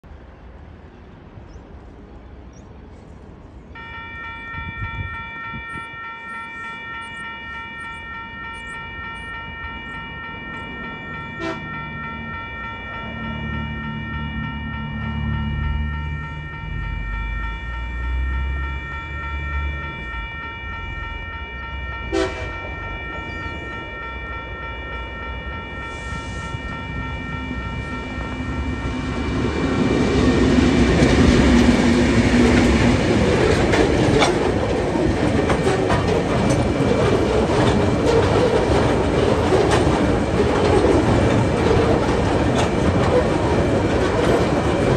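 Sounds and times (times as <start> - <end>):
level crossing bell ringing: 3.8 - 44.9.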